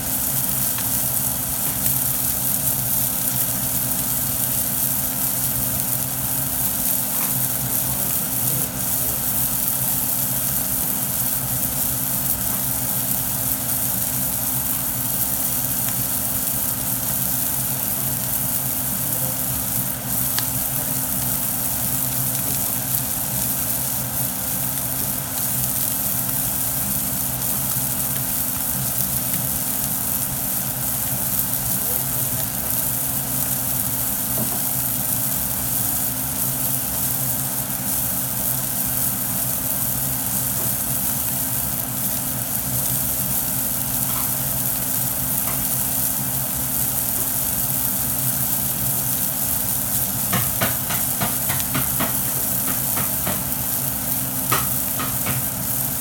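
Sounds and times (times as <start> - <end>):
fish sizzling in a frying pan: 0.0 - 56.0.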